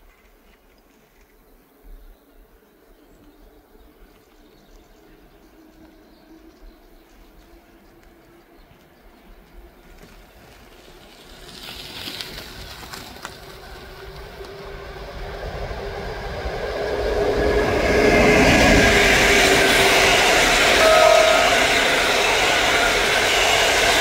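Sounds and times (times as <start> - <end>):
train wheel and rail noise: 0.1 - 24.0
locomotive hum: 3.5 - 24.0.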